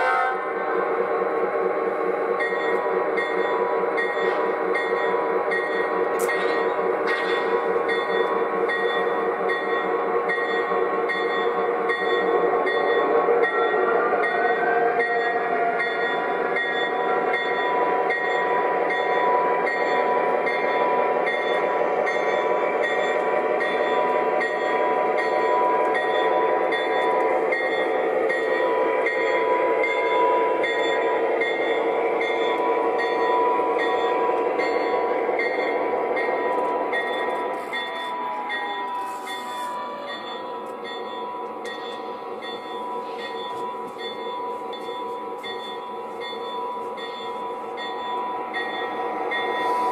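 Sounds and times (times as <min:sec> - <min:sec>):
model locomotive humming and whining: 0:00.0 - 0:49.9.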